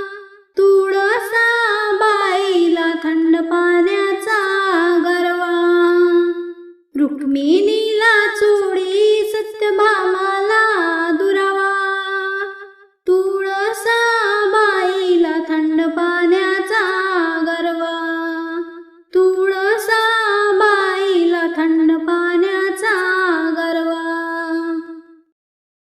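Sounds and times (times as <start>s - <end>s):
woman singing unaccompanied: 0.0s - 25.3s.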